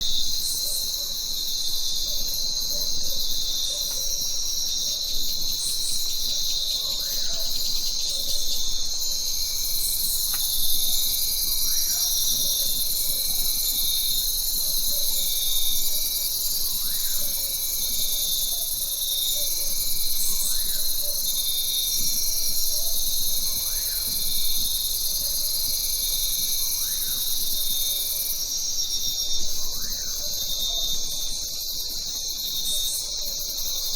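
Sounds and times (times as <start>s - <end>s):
insects buzzing and trilling: 0.0s - 33.9s
short insect chirp: 0.0s - 33.9s.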